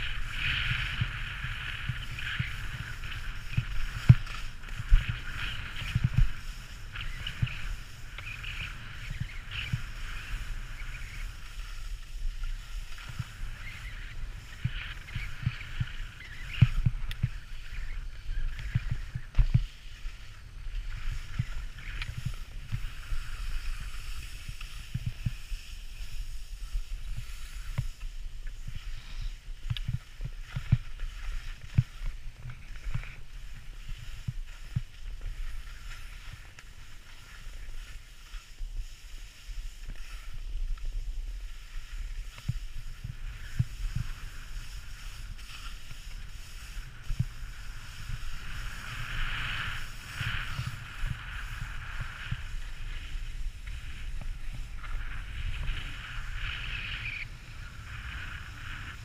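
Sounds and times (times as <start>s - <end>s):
wind buffeting on microphone: 0.0s - 37.9s, 38.5s - 59.0s
skis hissing over snow: 0.0s - 59.0s.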